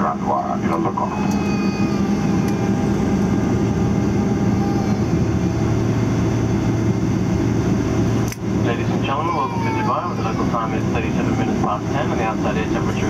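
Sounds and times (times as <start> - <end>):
jet engines droning: 0.0 - 13.0
low hum: 0.0 - 13.0.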